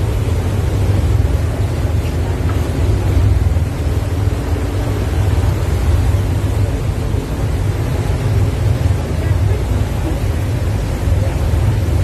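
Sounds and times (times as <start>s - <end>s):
boat engine: 0.0s - 12.0s
churning wake: 0.0s - 12.0s.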